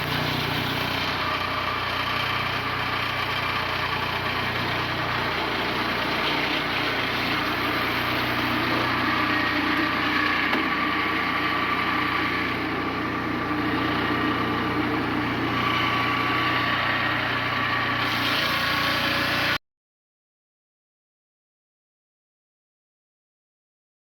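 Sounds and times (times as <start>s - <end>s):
sawmill engine running: 0.0s - 19.6s.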